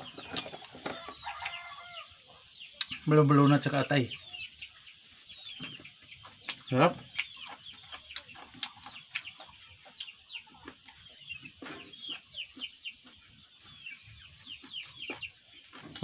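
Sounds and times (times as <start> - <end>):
chickens peeping and clucking: 0.0 - 16.0.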